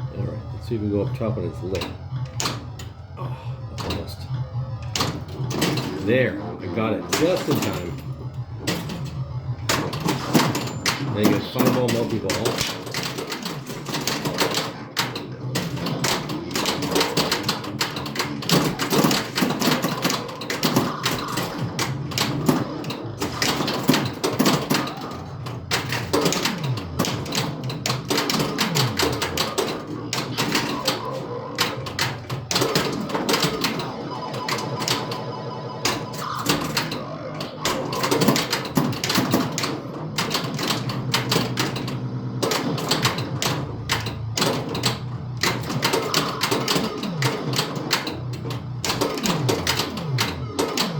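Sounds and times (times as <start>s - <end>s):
electronic game sound effects: 0.0s - 50.9s
pinball flippers and balls clattering: 0.0s - 50.9s.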